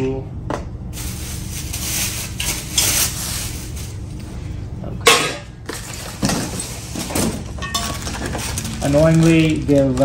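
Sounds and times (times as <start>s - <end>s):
steady low hum: 0.0s - 10.0s
metal tubes being handled: 1.0s - 4.3s, 5.0s - 9.7s.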